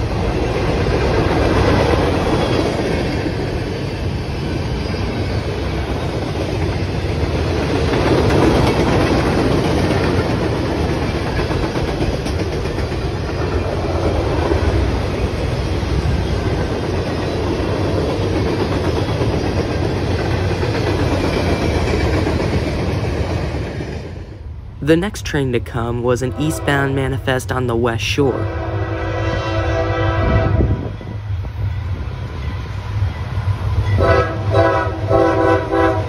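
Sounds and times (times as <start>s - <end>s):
train wheels rumbling on rails: 0.0s - 24.4s, 28.5s - 36.0s.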